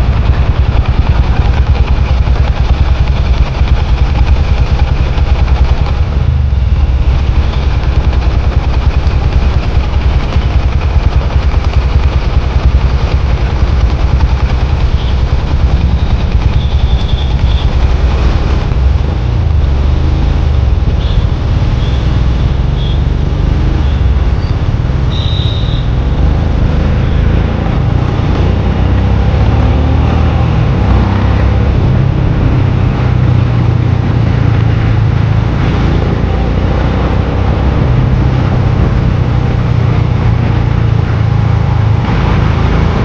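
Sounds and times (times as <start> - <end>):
motorcycle engine deep rumble: 0.0 - 43.0.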